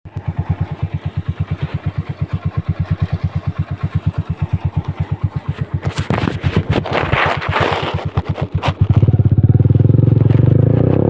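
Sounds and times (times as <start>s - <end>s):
motorcycle engine idling: 0.1s - 10.8s.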